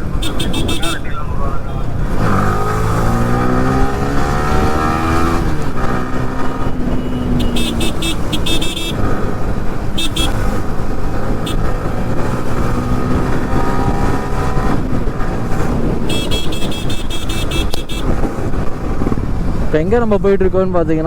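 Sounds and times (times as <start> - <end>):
motorcycle engine: 0.0 - 20.4
wind noise on microphone: 1.9 - 20.2.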